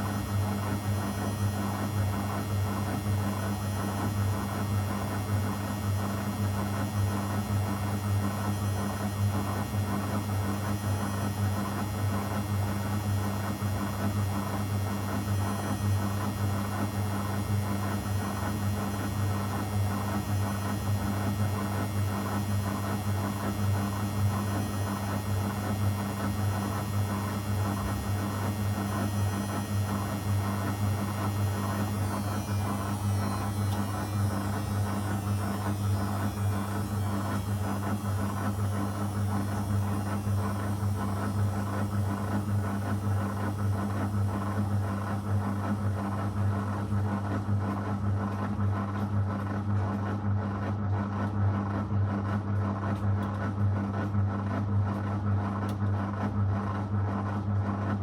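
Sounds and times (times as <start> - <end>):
washing machine humming: 0.0 - 49.0.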